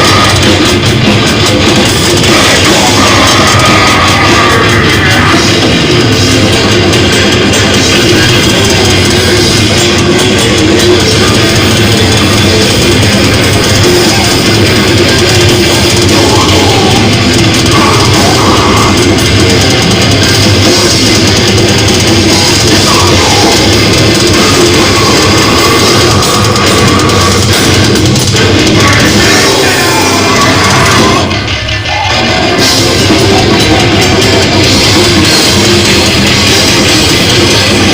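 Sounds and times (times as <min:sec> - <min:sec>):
heavy metal band playing: 0:00.0 - 0:37.9.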